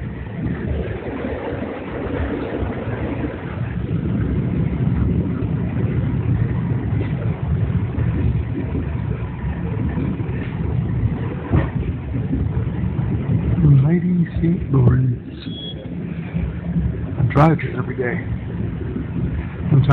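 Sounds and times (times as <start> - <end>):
train rumbling: 0.0 - 19.9.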